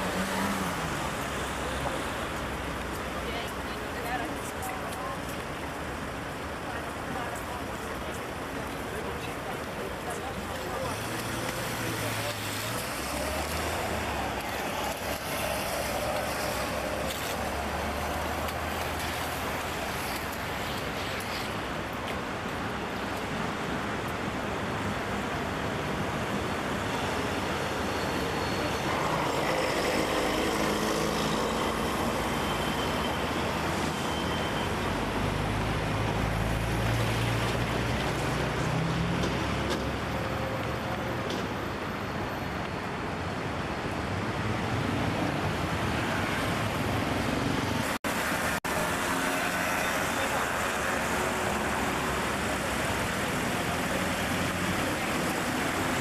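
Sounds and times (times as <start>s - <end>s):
cars passing: 0.0s - 56.0s.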